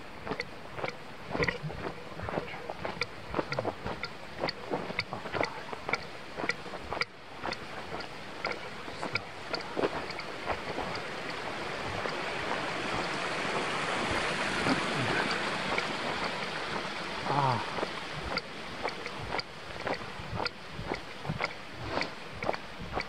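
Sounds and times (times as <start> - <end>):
creek rushing: 0.0 - 23.0
footsteps crunching in snow: 0.0 - 23.0.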